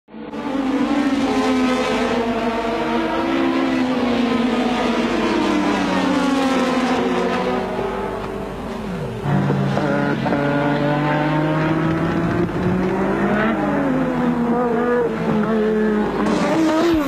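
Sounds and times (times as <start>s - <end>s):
racing car engines at high revs: 0.1s - 17.0s.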